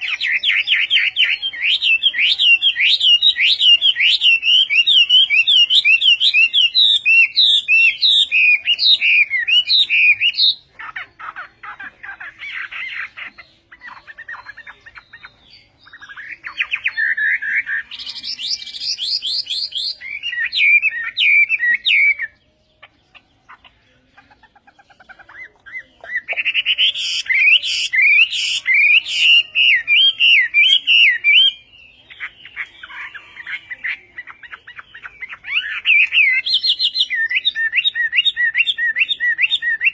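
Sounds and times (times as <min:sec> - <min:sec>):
songbird whistling and twittering: 0:00.0 - 0:39.9.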